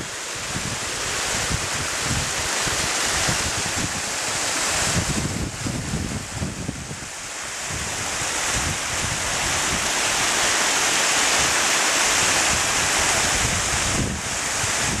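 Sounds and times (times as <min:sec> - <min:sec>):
rainwater rushing down a slope: 0:00.0 - 0:15.0
wind buffeting microphone: 0:00.0 - 0:15.0.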